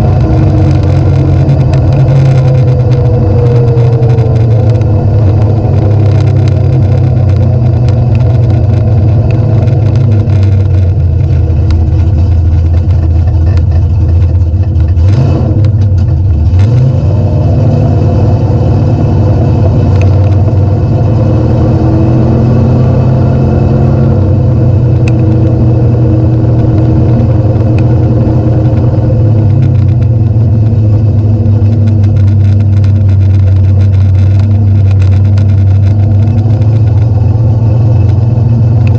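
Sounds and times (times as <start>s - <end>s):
car engine running with low exhaust: 0.0s - 38.9s.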